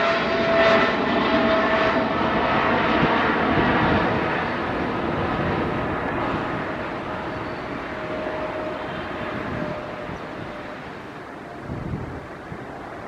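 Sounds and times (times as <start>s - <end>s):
jet roar with faint whine: 0.0s - 13.0s.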